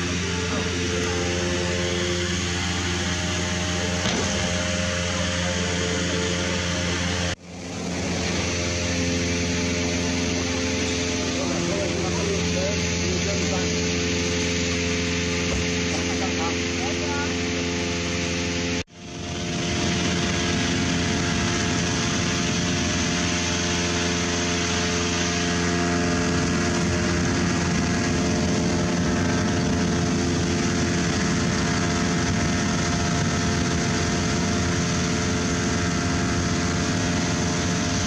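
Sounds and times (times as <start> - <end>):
engine running steadily: 0.0 - 38.0.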